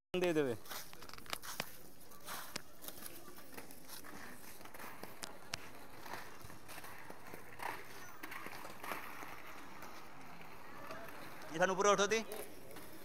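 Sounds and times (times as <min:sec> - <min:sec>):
inline skates rolling on asphalt: 0:00.2 - 0:13.0
faint voices: 0:00.3 - 0:13.0.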